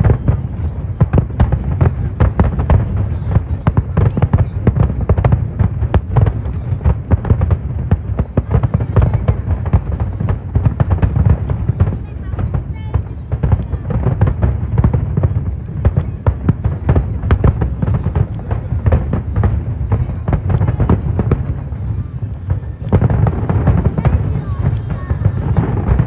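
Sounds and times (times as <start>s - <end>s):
fireworks bangs and crackles: 0.0s - 26.0s
low rumble of bursting shells: 0.0s - 26.0s.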